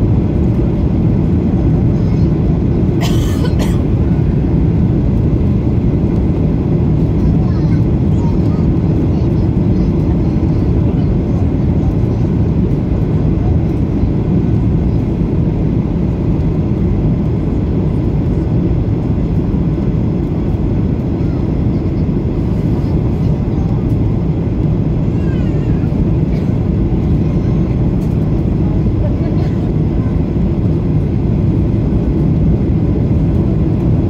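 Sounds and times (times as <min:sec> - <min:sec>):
airliner cabin engine roar: 0:00.0 - 0:34.0.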